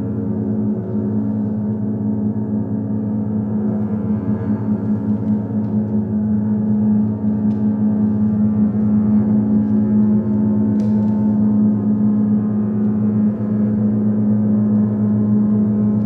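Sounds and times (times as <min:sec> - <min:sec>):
bowed double basses droning: 0:00.0 - 0:16.0.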